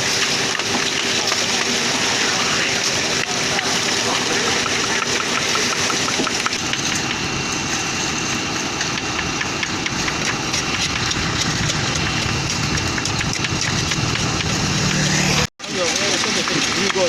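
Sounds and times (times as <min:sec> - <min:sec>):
diesel engine running: 0:00.0 - 0:17.0
gritty crackling: 0:00.2 - 0:17.0.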